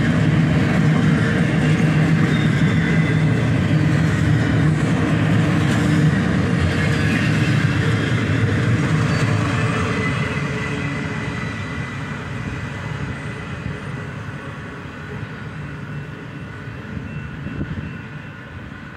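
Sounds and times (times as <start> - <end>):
train rolling along rails: 0.0 - 18.9.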